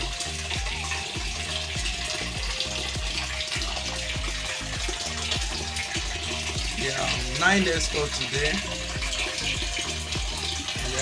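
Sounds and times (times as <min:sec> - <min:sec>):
background music with beat: 0:00.0 - 0:11.0
water pouring from a hose: 0:00.0 - 0:11.0.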